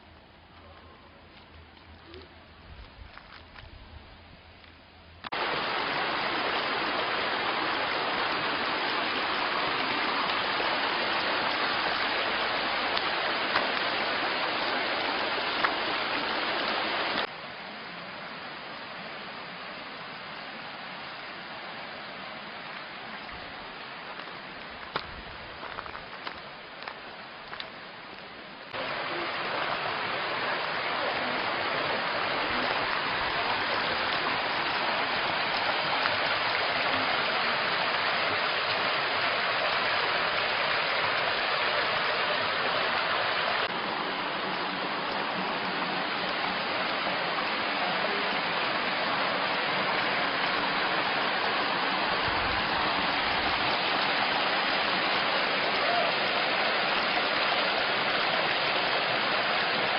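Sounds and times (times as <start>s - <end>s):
mountain stream rushing: 5.2s - 59.9s.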